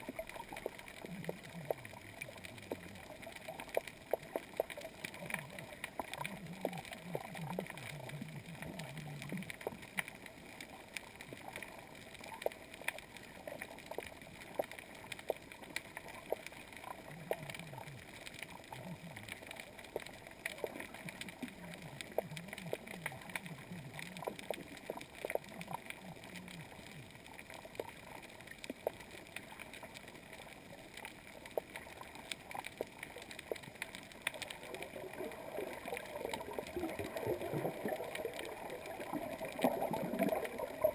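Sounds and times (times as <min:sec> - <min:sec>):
underwater crackle of sharp clicks: 0:00.0 - 0:40.9.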